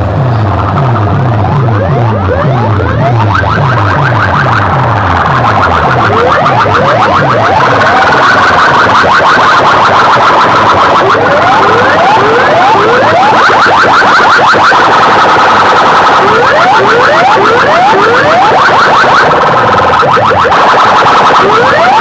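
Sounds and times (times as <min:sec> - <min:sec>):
electronic siren effects over loudspeakers: 0:00.0 - 0:22.0
steady high tones: 0:00.0 - 0:22.0.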